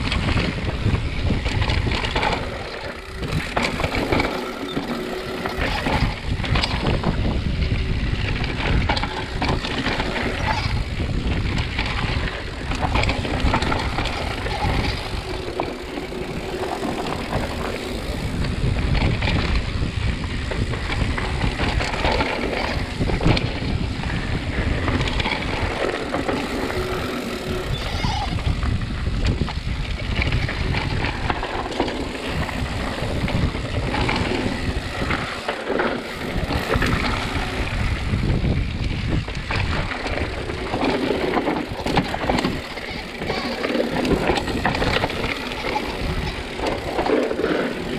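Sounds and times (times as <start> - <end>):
bike chain and frame rattling: 0.0 - 47.9.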